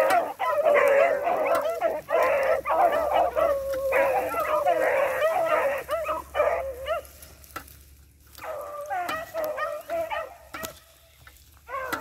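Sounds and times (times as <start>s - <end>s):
hounds baying: 0.0s - 7.5s, 8.2s - 12.0s.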